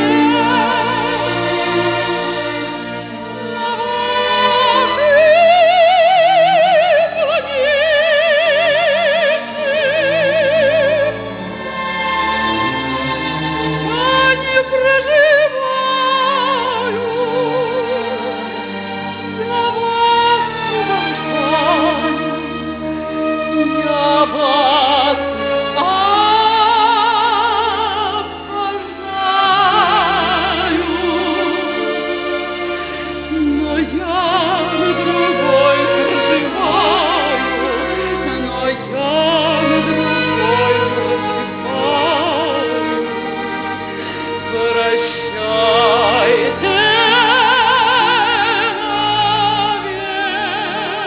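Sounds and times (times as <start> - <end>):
woman singing operatic: 0.0 - 1.7, 3.4 - 11.2, 13.9 - 18.4, 19.4 - 22.5, 23.6 - 31.7, 33.3 - 43.1, 44.5 - 51.0
instrumental accompaniment: 0.0 - 51.0.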